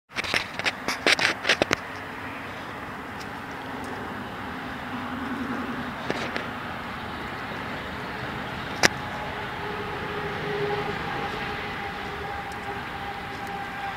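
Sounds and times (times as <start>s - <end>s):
outdoor background noise: 0.1s - 13.9s.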